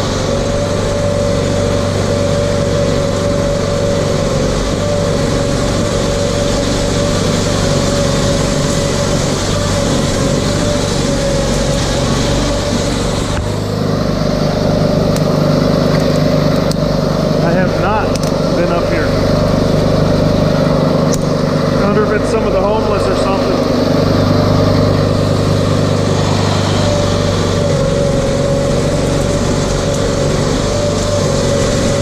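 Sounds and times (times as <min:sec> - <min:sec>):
engine running: 0:00.0 - 0:32.0
thin steady whine: 0:00.0 - 0:32.0.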